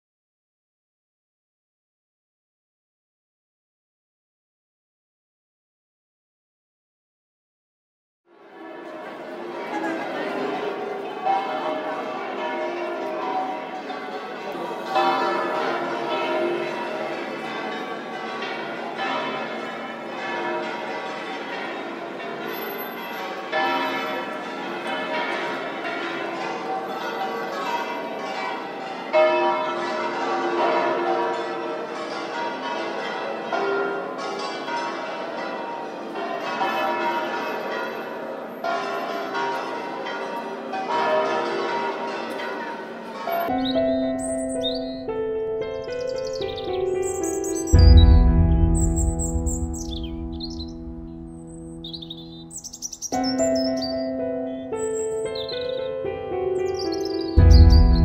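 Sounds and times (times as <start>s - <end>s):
bells ringing in a peal: 8.4s - 58.0s.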